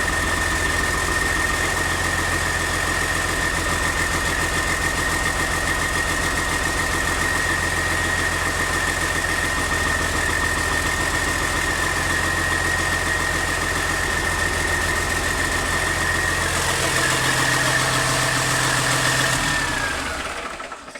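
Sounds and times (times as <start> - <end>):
diesel engine rumbling: 0.0 - 20.9.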